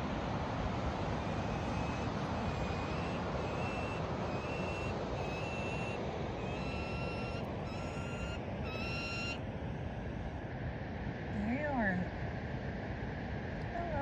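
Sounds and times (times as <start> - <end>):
wind: 0.0 - 14.0.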